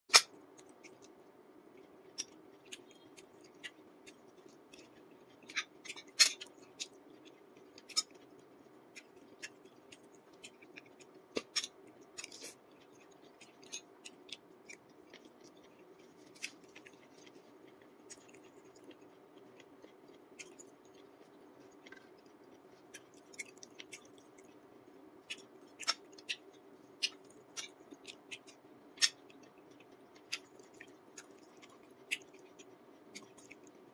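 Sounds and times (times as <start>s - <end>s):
faint steady hum: 0.1s - 33.9s
person chewing with wet smacks: 0.1s - 33.9s.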